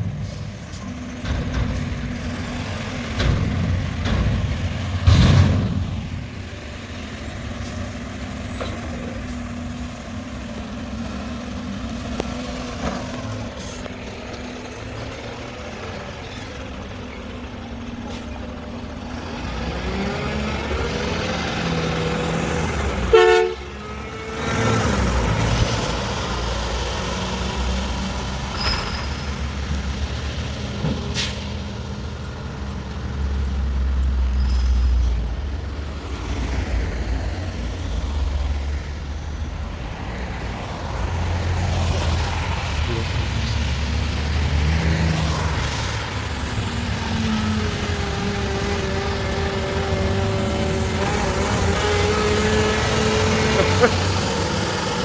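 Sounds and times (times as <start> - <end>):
diesel truck engine revving: 0.0 - 28.6, 29.2 - 55.0.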